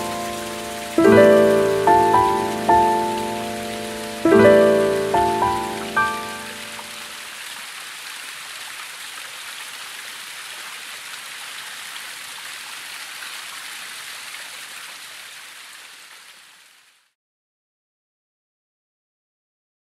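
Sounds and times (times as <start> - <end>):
waterfall splashing on rock: 0.0 - 17.2.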